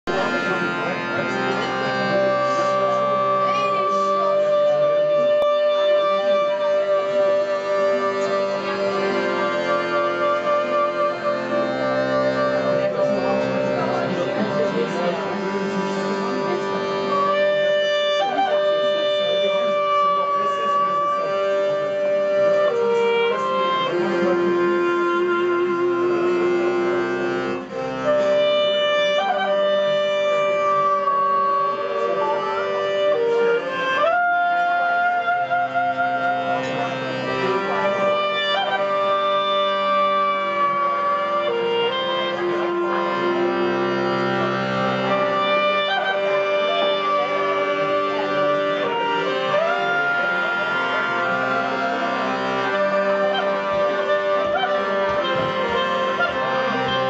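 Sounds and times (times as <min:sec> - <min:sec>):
accordion chords: 0:00.0 - 0:57.0
clarinet melody: 0:00.0 - 0:57.0.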